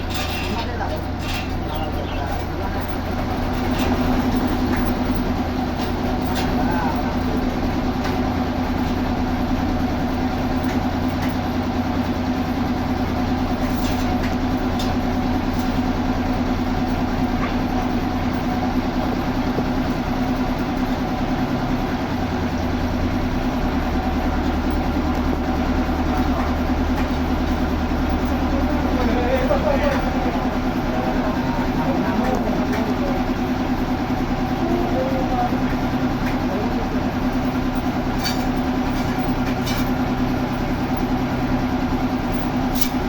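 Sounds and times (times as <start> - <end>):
sawmill machinery droning: 0.0 - 43.0.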